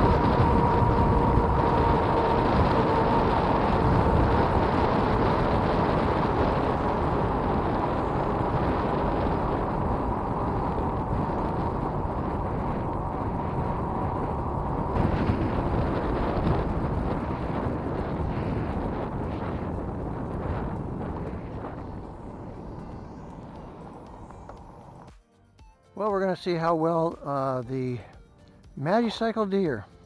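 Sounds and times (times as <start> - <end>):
wind buffeting microphone: 0.0 - 25.1
bike tyres on asphalt: 0.0 - 25.2
faint steady whine: 0.0 - 25.2.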